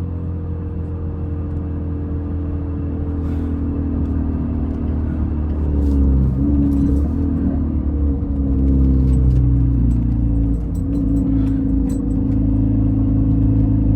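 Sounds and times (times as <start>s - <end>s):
car engine rumble from inside: 0.0s - 13.9s.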